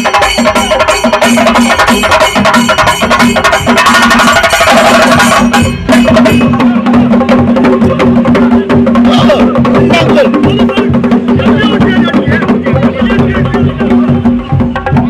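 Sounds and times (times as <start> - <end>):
drums beaten fast with sticks: 0.0 - 15.0.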